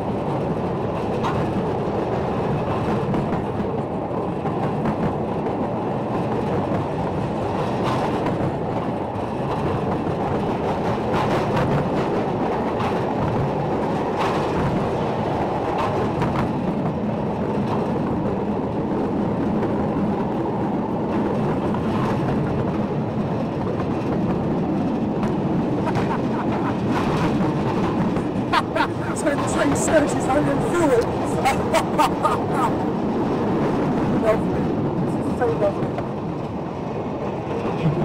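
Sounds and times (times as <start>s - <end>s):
wagon wheels rumbling on rails: 0.0s - 38.0s
sharp track clicks: 0.3s - 34.6s.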